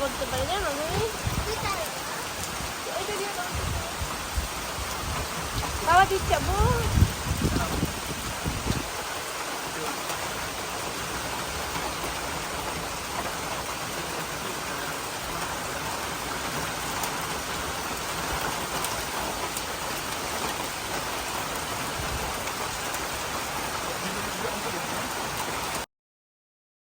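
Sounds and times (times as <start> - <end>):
heavy rain pattering: 0.0 - 25.9.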